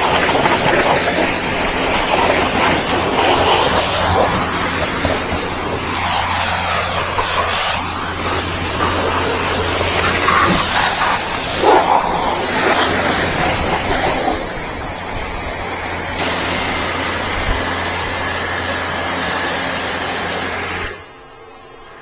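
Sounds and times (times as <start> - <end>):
pressure washer jet hissing: 0.0 - 21.2
pump motor humming: 0.0 - 21.6.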